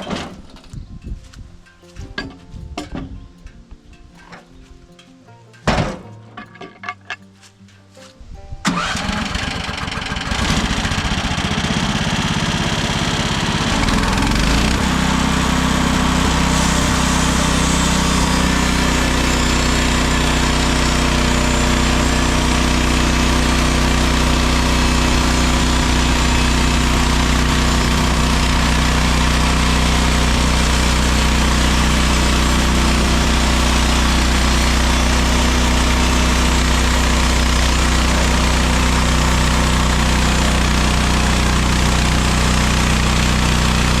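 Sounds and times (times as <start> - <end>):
gasoline engine running: 8.6 - 44.0.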